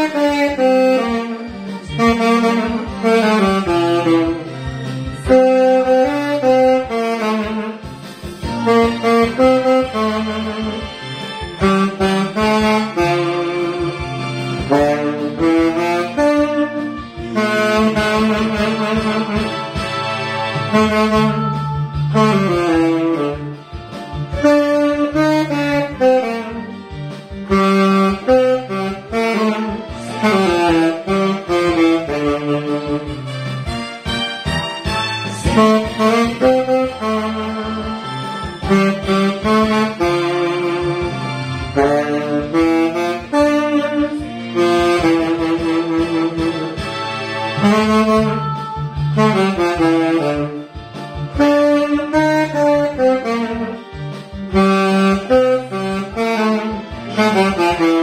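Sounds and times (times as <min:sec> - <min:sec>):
karaoke backing track: 0:00.0 - 0:58.0
saxophone playing melody: 0:00.0 - 0:58.0.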